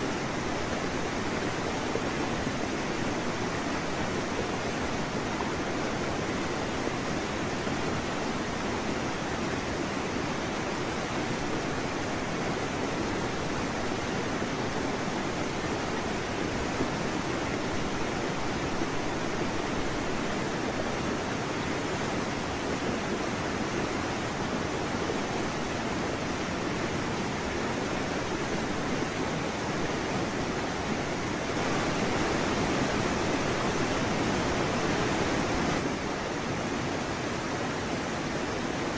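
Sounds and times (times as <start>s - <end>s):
open water rushing: 0.0s - 38.9s
wind: 0.0s - 38.9s.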